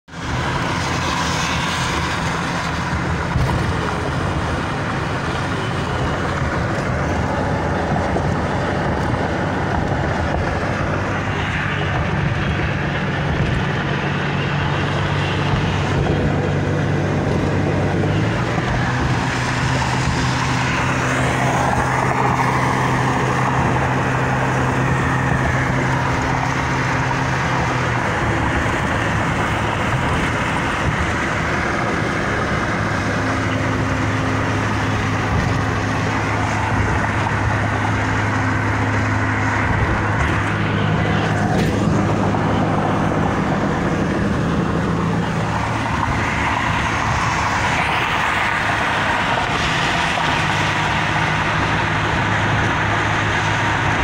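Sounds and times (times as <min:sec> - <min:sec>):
truck engine drone: 0:00.0 - 0:54.0
tyre and road noise: 0:00.0 - 0:54.0.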